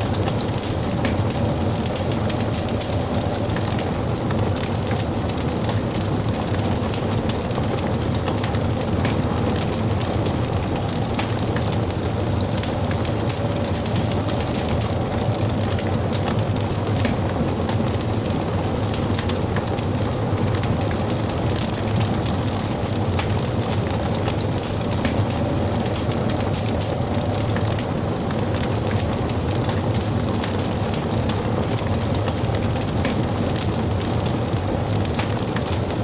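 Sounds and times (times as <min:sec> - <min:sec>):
burning wood crackling: 0:00.0 - 0:36.0
fire flames rumbling: 0:00.0 - 0:36.0.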